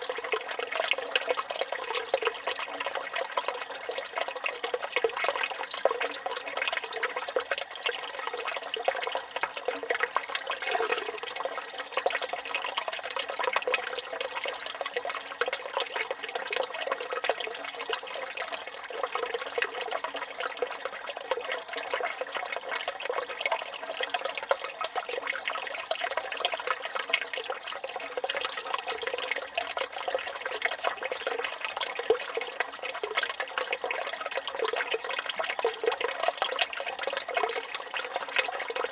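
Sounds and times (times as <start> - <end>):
fountain water splashing into basin: 0.0 - 38.9.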